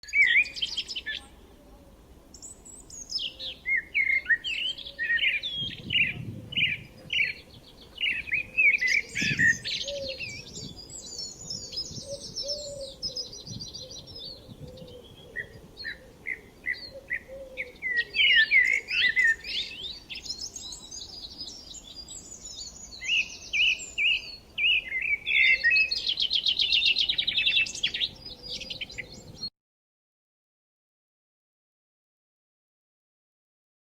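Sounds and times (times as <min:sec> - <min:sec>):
songbirds chirping and trilling: 0:00.0 - 0:29.5.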